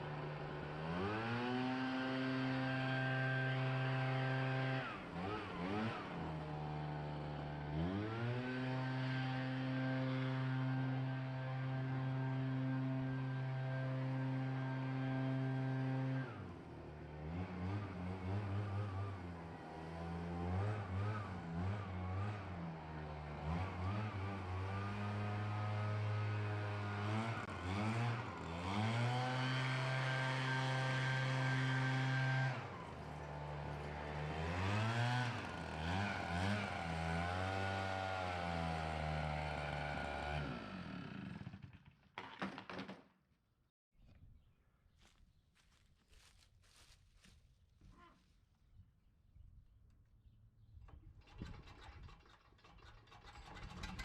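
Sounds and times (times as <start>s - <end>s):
small gas engine running: 0.0s - 42.3s, 50.9s - 54.0s.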